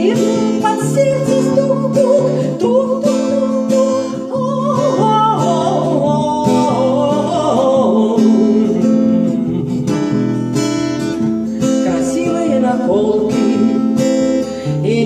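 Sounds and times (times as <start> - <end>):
woman singing wordless vocalise: 0.0 - 9.8, 11.6 - 15.0
acoustic guitar: 0.0 - 15.0.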